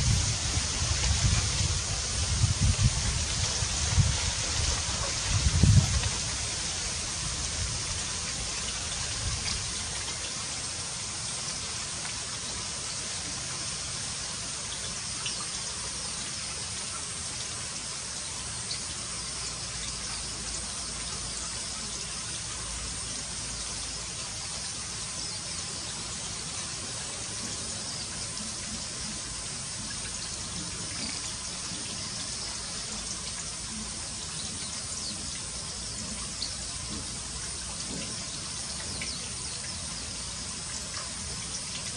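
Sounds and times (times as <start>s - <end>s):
running water hissing: 0.0s - 41.9s.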